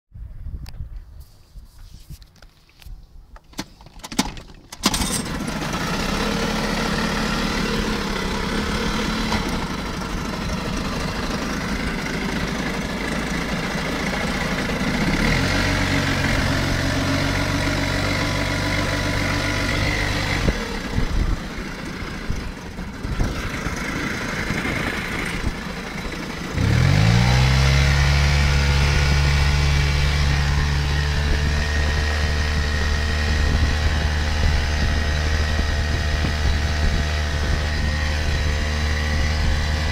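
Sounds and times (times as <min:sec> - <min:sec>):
outboard motor running: 0:04.8 - 0:39.9.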